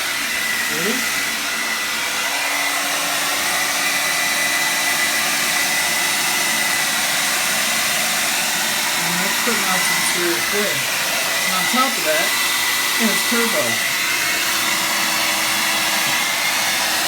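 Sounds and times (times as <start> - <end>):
hair dryer blowing air: 0.0 - 17.0.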